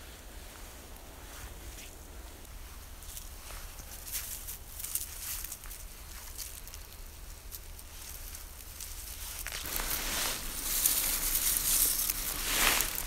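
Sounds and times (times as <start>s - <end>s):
conifer twigs crackling and rustling: 0.9s - 13.0s.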